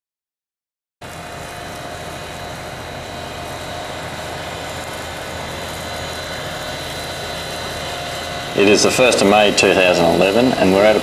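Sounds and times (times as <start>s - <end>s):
tractor engine drone: 1.0s - 11.0s.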